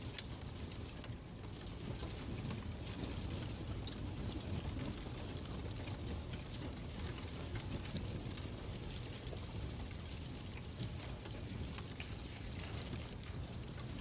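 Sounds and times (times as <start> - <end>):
fireplace crackling and popping: 0.0 - 14.0.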